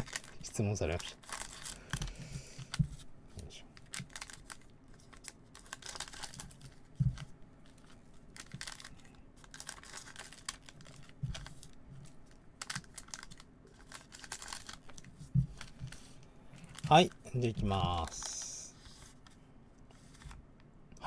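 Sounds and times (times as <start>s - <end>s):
foil packs crinkling: 0.0s - 2.8s, 3.8s - 18.6s.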